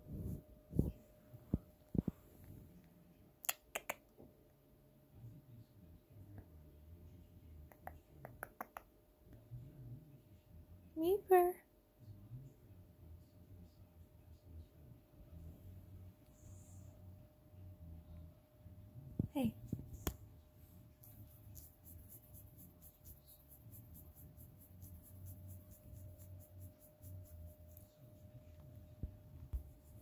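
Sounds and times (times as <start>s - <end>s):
faint low rumble: 0.0s - 3.4s, 9.0s - 30.0s.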